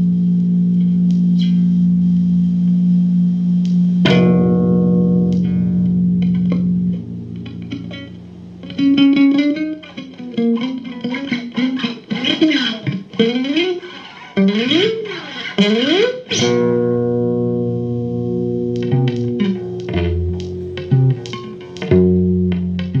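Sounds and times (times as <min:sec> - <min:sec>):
electric guitar lead with string bends: 0:04.0 - 0:23.0.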